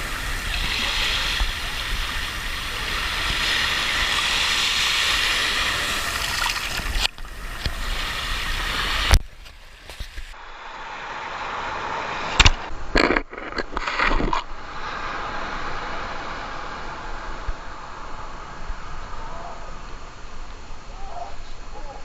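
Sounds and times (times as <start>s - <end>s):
sea waves washing on beach: 0.0s - 13.1s, 13.8s - 20.4s.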